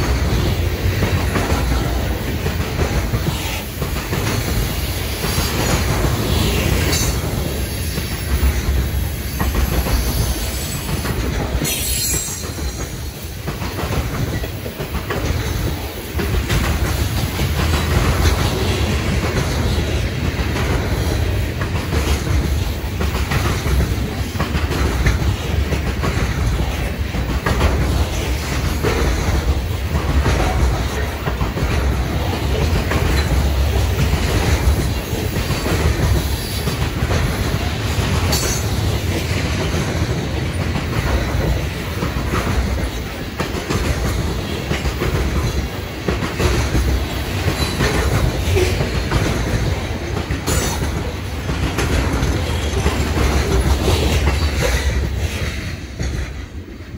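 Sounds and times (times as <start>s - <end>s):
freight train rumbling: 0.0s - 56.9s
wheels clacking over rail joints: 0.0s - 56.9s.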